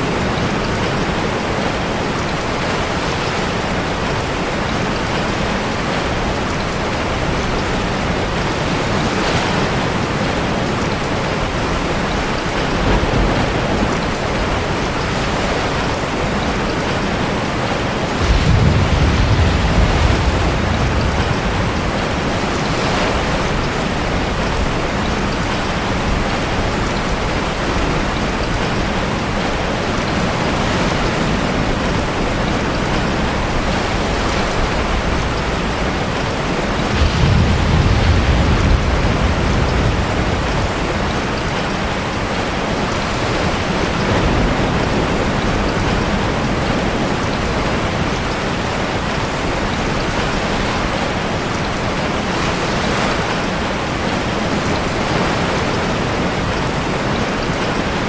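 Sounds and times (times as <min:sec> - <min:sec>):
heavy rain: 0:00.0 - 0:58.0
sea waves surging in cave: 0:00.0 - 0:58.0.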